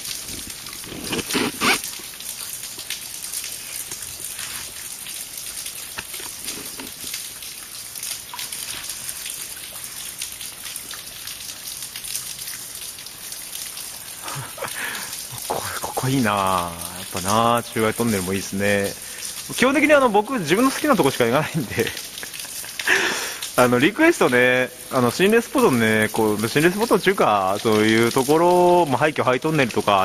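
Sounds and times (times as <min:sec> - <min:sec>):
water dripping and trickling: 0:00.0 - 0:30.0.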